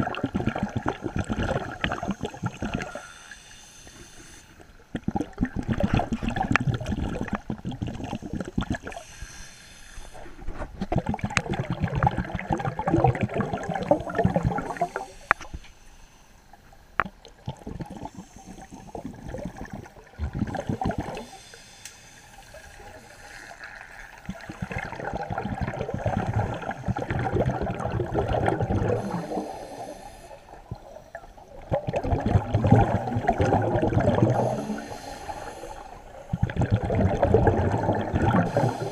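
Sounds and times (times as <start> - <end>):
underwater exhaled bubbles rushing: 0.0 - 3.1, 4.9 - 9.1, 10.1 - 15.1, 17.0 - 21.4, 22.6 - 38.9.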